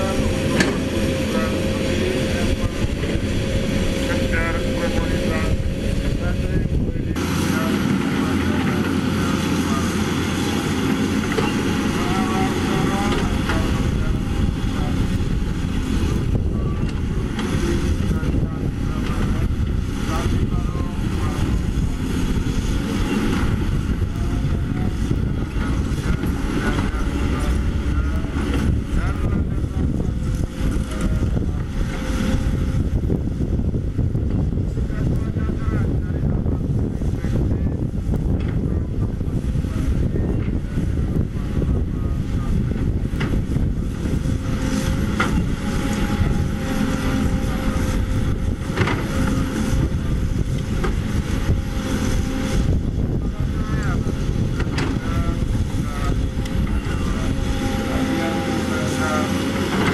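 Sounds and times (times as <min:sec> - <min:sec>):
excavator diesel engine rumbling: 0:00.0 - 0:59.9.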